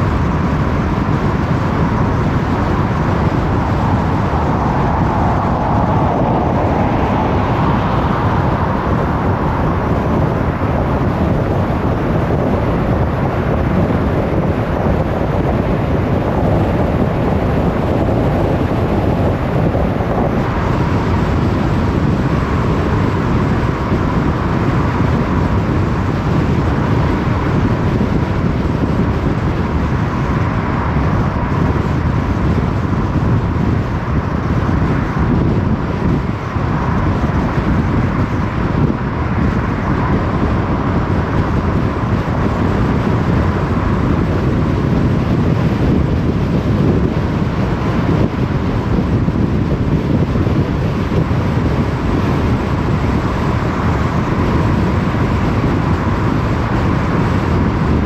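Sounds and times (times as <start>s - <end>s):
car driving on a road: 0.0s - 58.0s.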